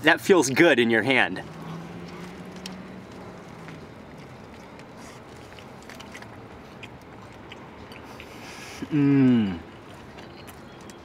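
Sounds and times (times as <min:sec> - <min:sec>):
wet chewing: 0:01.4 - 0:11.0.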